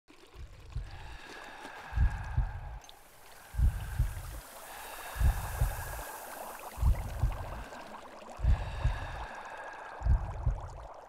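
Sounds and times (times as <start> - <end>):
water bubbling and gurgling: 0.1 - 11.0.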